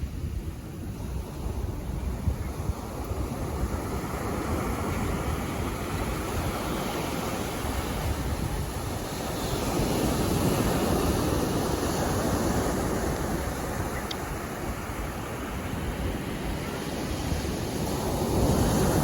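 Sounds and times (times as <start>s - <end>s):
sea waves washing onto beach: 0.0s - 19.0s.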